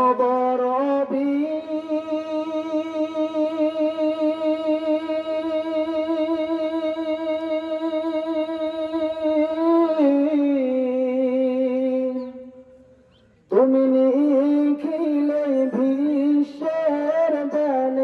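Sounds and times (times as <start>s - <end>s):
man singing unaccompanied: 0.0s - 12.8s, 13.5s - 18.0s.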